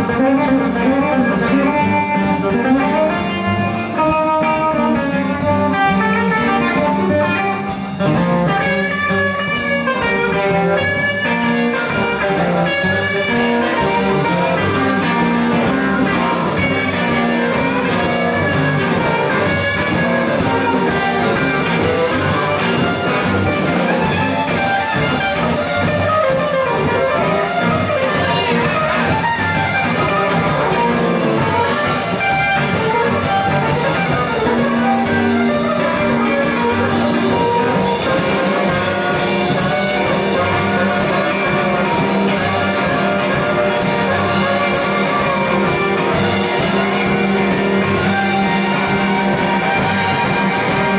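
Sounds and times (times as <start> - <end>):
drum kit beat: 0.0 - 50.9
electric guitar: 0.0 - 50.9.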